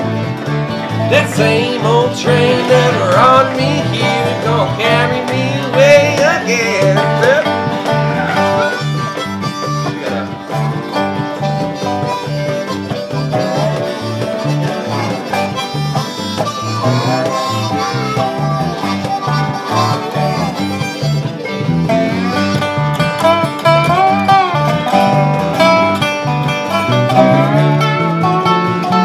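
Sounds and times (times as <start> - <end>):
electric bass: 0.0 - 29.0
harmonica solo: 0.0 - 29.0
strummed acoustic guitars: 0.0 - 29.0.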